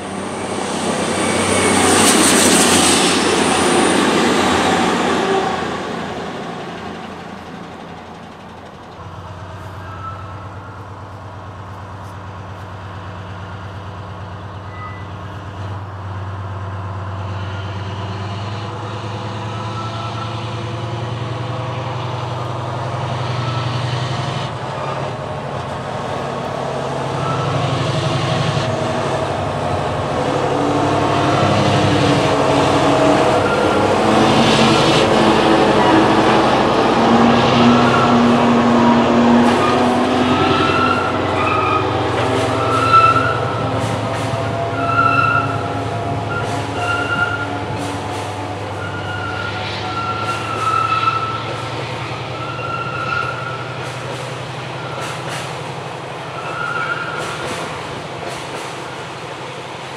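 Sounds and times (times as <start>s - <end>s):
diesel locomotive engine droning: 0.0s - 59.9s.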